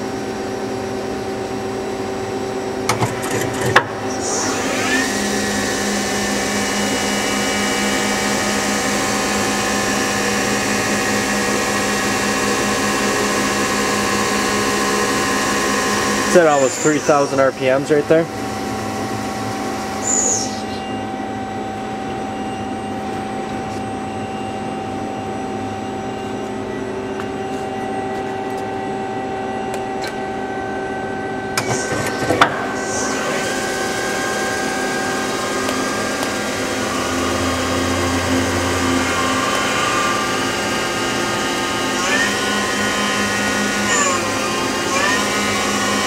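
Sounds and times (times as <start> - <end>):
lathe spindle hum and whine: 0.0 - 46.0.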